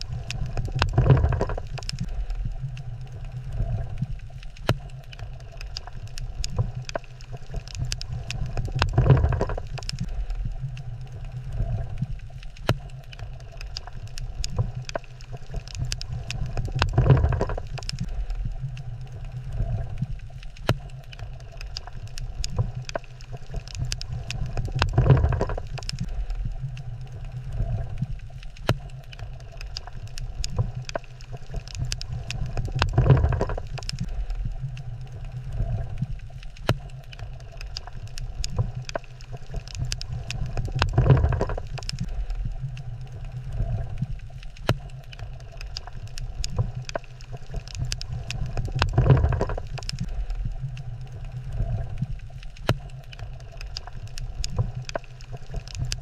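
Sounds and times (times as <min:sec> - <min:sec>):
low underwater rumble: 0:00.0 - 0:56.0
sharp crackles and clicks: 0:00.0 - 0:56.0
water noise swell: 0:00.0 - 0:56.0.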